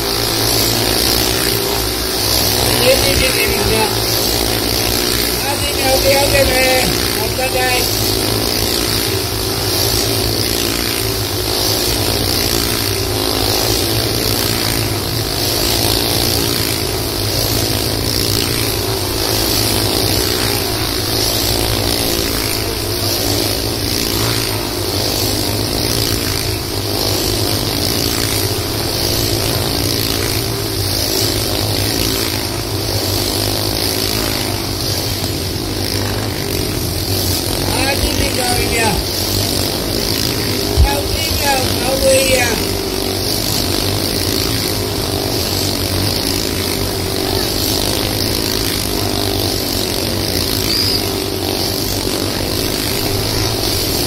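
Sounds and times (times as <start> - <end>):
motorcycle engines buzzing: 0.0 - 54.0.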